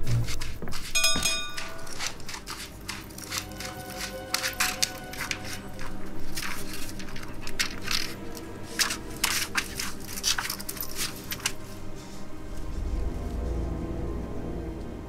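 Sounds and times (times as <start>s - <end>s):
shuffling footsteps crunching: 0.0s - 13.8s
low musical drone: 1.2s - 15.0s.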